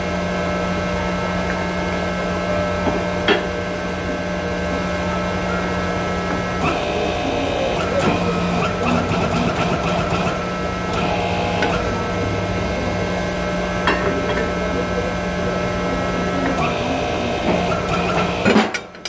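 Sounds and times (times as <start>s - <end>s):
workshop machinery humming: 0.0s - 19.0s.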